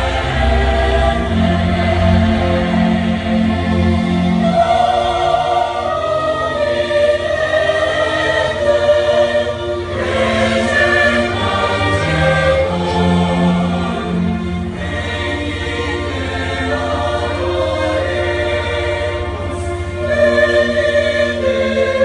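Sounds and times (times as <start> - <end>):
orchestra playing: 0.0 - 22.0
singing voices: 0.0 - 22.0.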